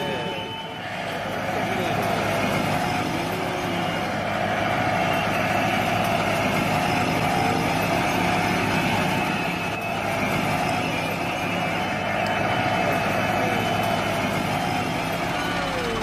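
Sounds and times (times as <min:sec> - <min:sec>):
toy engine idling sound effect: 0:00.0 - 0:16.0.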